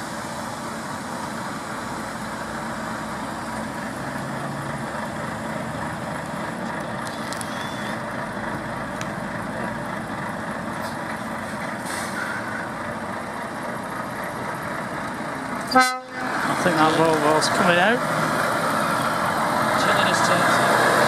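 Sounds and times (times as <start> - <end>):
diesel truck engines idling: 0.0 - 21.0.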